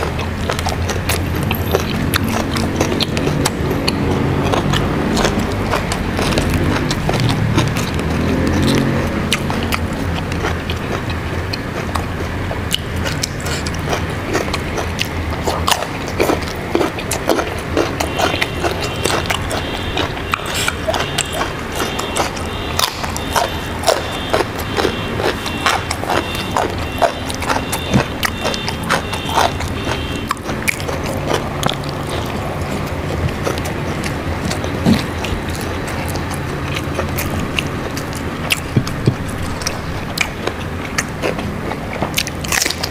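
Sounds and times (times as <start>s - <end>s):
chewing crunchy vegetables: 0.0s - 42.9s
steady low hum: 0.0s - 42.9s.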